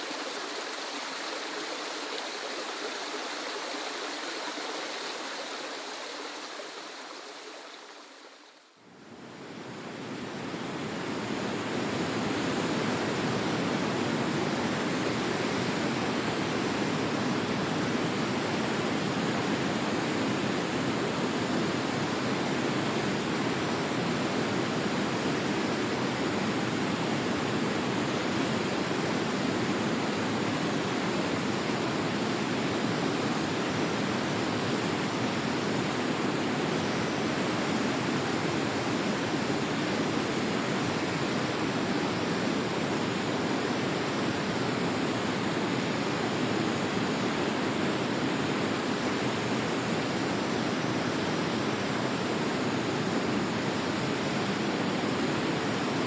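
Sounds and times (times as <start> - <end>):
waterfall roaring: 9.6 - 56.0.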